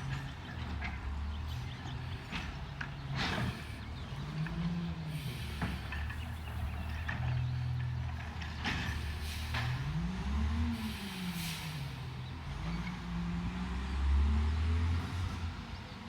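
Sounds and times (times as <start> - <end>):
garbage truck diesel engine revving: 0.0 - 15.8.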